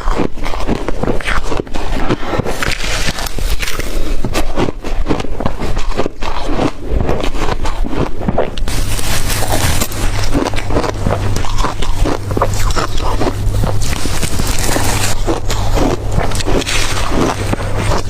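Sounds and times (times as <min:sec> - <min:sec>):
ice being chewed: 0:00.0 - 0:18.0
low steady hum: 0:00.0 - 0:18.0.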